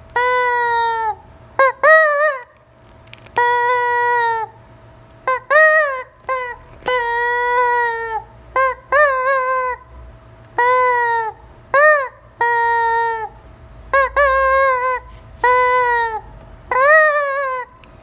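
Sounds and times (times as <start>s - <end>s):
rubber chicken toy squawking: 0.2s - 2.6s, 3.3s - 4.6s, 5.3s - 9.9s, 10.6s - 17.8s.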